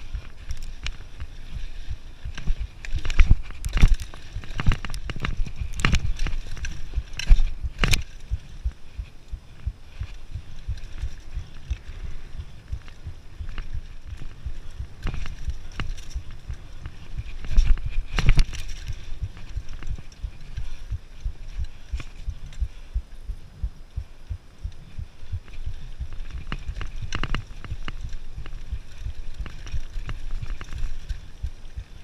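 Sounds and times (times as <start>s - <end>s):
bike rattling over bumps: 0.0s - 32.0s
low rumble of bike tyres: 0.0s - 32.0s.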